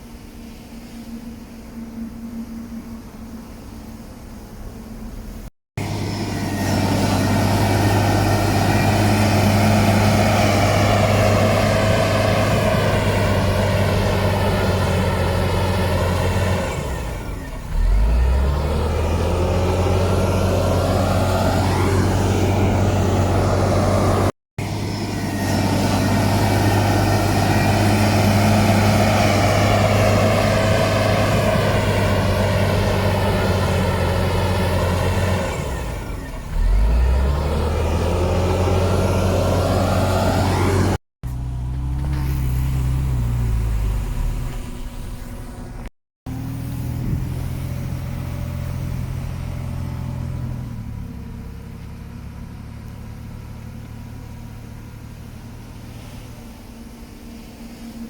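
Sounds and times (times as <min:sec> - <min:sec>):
diesel engine revving high: 0:00.0 - 0:58.0.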